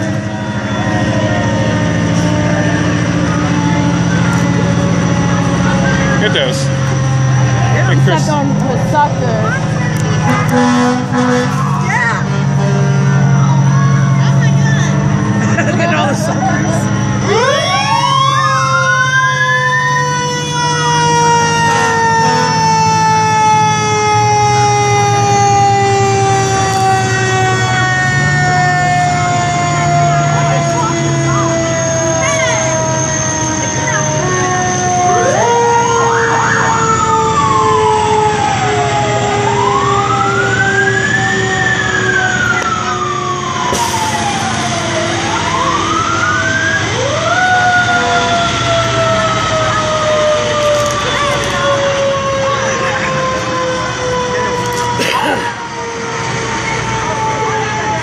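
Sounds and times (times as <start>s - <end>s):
fire truck siren wailing: 0.0s - 58.0s.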